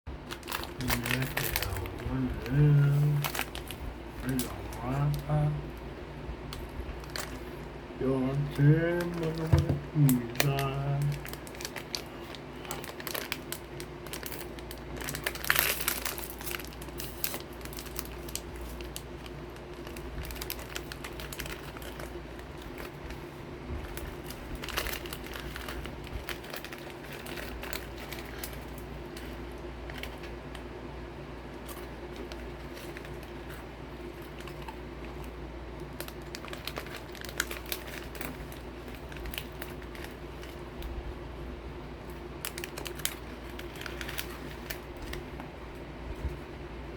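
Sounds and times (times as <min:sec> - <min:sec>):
plastic wrapper crinkling: 0:00.2 - 0:30.7, 0:31.4 - 0:41.0, 0:41.8 - 0:46.5.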